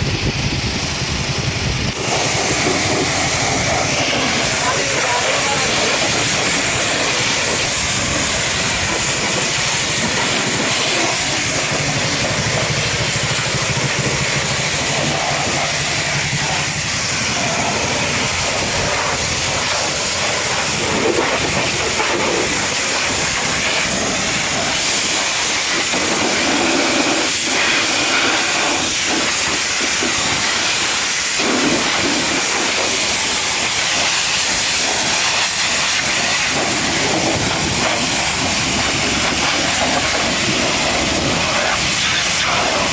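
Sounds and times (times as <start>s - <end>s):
pressure washer spraying water: 0.0s - 42.9s.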